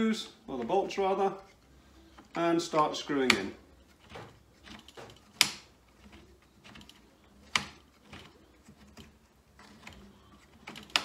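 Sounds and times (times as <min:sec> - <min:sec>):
metal hardware clicks and taps: 0:02.1 - 0:11.0.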